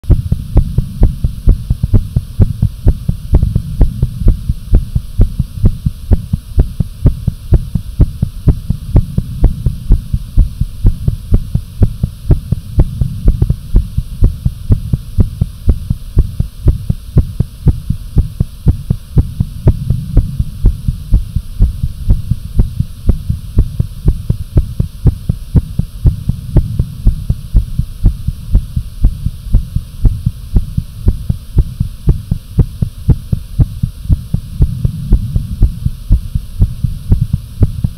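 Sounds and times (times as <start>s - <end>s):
fast heartbeat: 0.0s - 37.9s
low hum: 0.0s - 37.9s.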